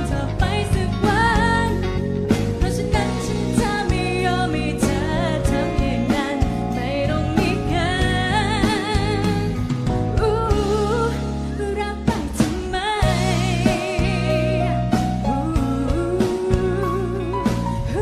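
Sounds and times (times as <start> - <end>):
live band playing: 0.0 - 18.0
woman singing pop song: 0.0 - 18.0.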